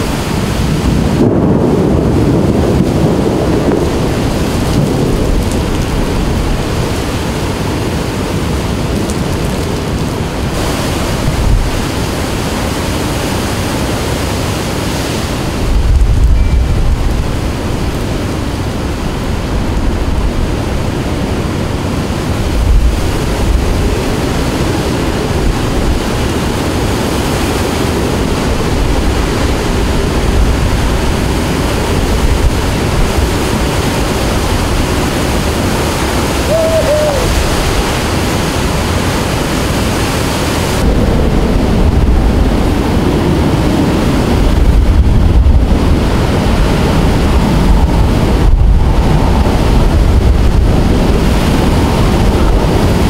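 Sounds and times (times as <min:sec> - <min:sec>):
driving rain: 0:00.0 - 0:53.0
hurricane wind: 0:00.0 - 0:53.0
wind buffeting microphone: 0:00.0 - 0:53.0.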